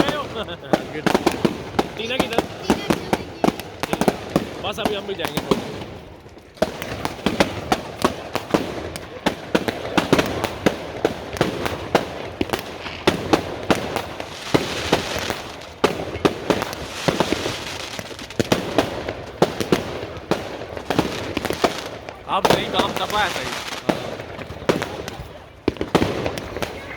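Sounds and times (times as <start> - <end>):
fireworks bangs and cracks: 0.0 - 26.9
fireworks crackling hiss: 0.0 - 26.9.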